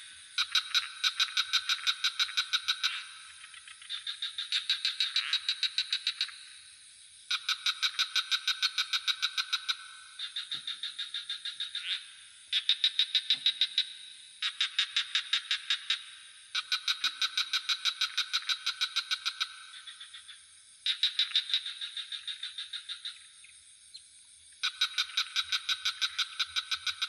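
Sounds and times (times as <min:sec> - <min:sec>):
crickets droning: 0:00.0 - 0:27.0
frogs calling in pulsed trains: 0:00.0 - 0:27.0.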